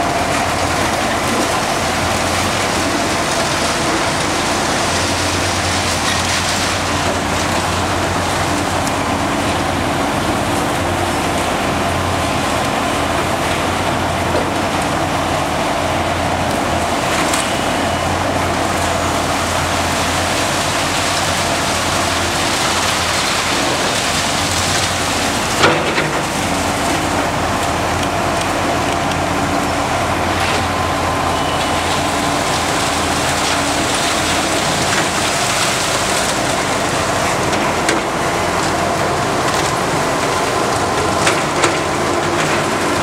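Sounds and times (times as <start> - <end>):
excavators running under load: 0.0 - 43.0.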